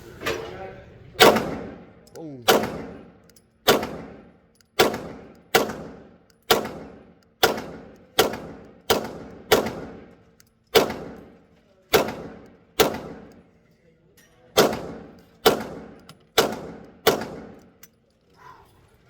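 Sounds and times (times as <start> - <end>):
pistol shots with echo: 1.2 - 13.4, 14.5 - 17.8.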